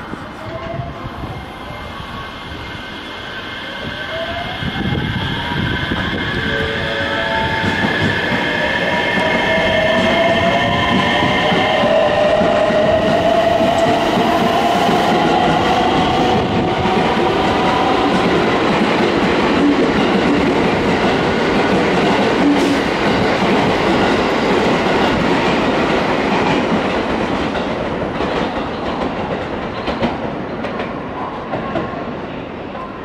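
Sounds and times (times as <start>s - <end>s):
train wheels rumbling on rails: 3.8s - 32.2s.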